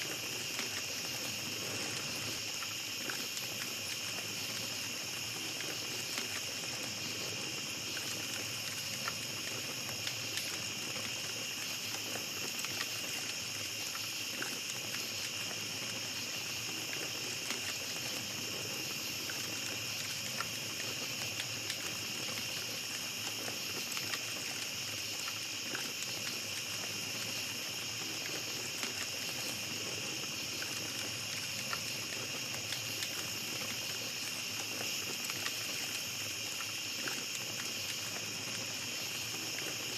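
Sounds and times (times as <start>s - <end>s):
campfire crackling and popping: 0.0s - 39.9s
night insects chorus: 0.0s - 39.9s.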